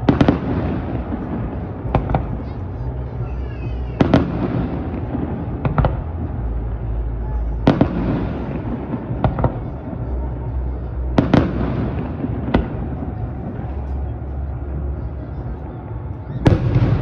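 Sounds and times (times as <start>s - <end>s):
continuous low rumble: 0.0s - 17.0s.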